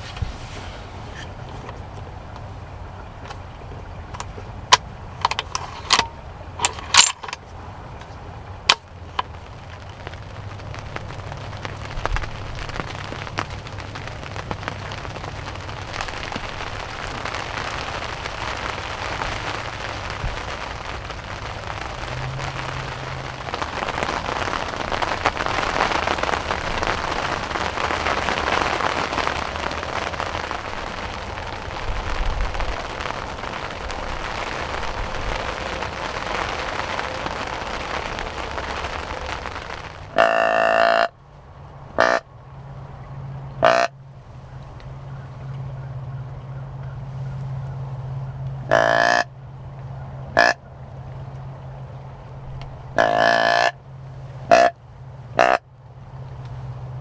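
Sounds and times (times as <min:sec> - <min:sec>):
rain pattering on ground: 0:00.0 - 0:57.0.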